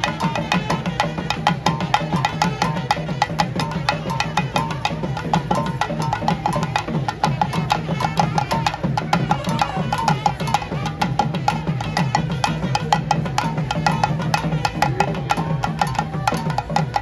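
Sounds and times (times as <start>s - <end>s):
drums beaten with sticks: 0.0s - 17.0s.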